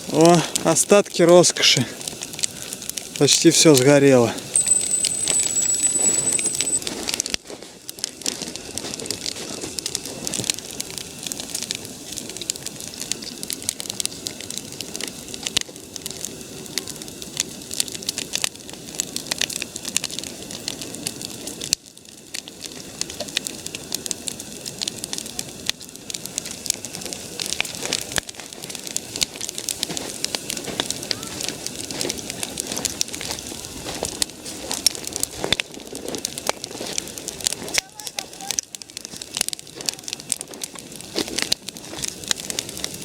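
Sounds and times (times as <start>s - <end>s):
flame hiss: 0.0s - 4.8s, 6.7s - 43.0s
bonfire crackling: 0.0s - 43.0s
fire pops and snaps: 0.0s - 43.0s.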